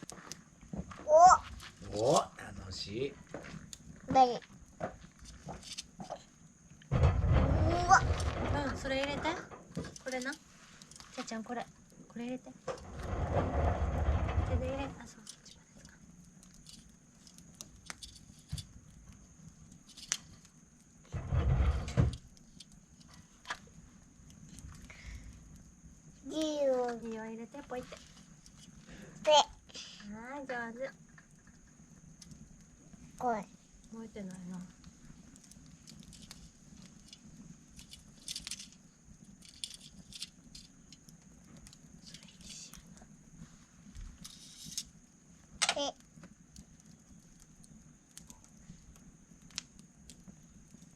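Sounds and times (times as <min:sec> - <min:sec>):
twigs crackling on campfire: 0:00.0 - 0:50.9.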